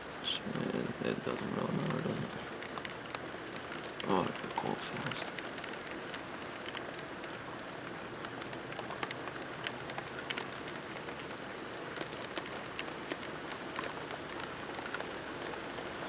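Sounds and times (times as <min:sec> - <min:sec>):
rain falling: 0:00.0 - 0:16.0
raindrops ticking on surfaces: 0:00.0 - 0:16.0.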